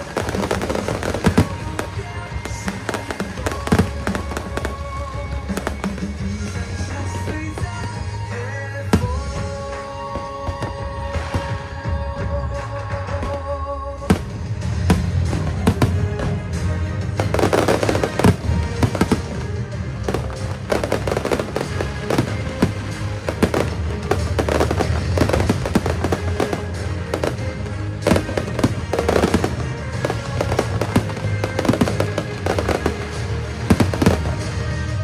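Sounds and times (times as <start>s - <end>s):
fireworks bursting: 0.0s - 35.0s
loud music with bass: 0.0s - 35.0s.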